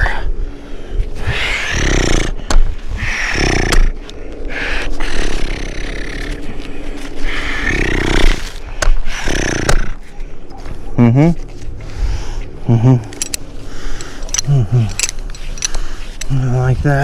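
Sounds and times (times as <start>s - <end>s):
man breathing heavily wheezing: 0.0s - 10.9s, 11.7s - 16.3s.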